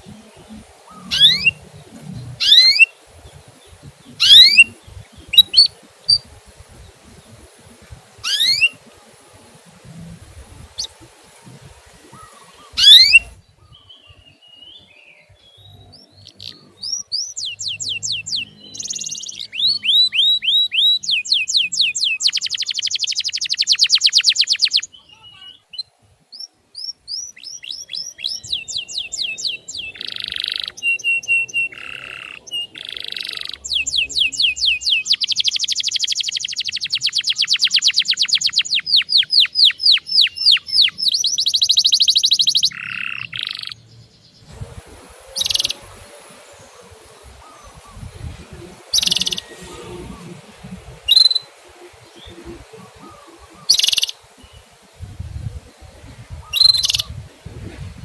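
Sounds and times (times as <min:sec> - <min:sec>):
canary singing: 0:00.0 - 0:08.9, 0:12.1 - 0:54.7, 0:56.4 - 0:57.2.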